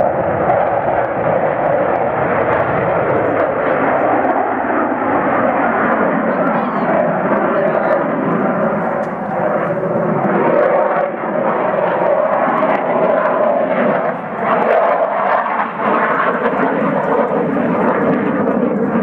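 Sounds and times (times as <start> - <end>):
fighter jet roaring overhead: 0.0 - 19.0.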